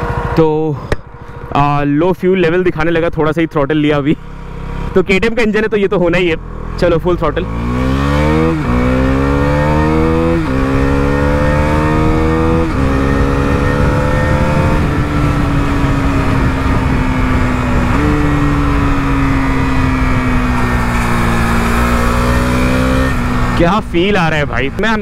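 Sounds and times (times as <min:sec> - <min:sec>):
motorcycle engine revving: 0:00.0 - 0:03.0, 0:03.6 - 0:25.0.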